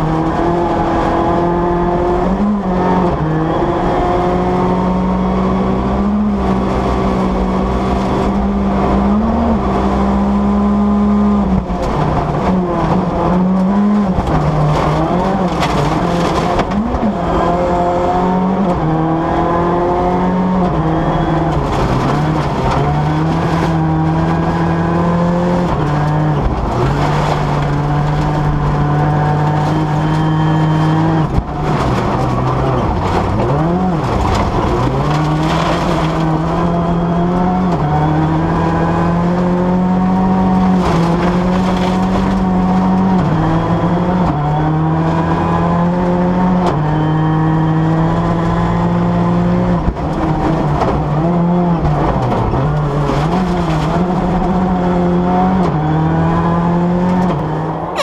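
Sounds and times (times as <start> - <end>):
rally car engine at high revs: 0.0 - 58.0.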